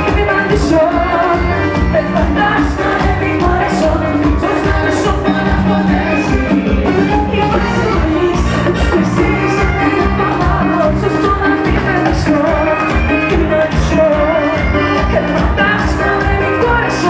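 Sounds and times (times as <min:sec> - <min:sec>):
live band music: 0:00.0 - 0:17.0
person singing: 0:00.0 - 0:17.0.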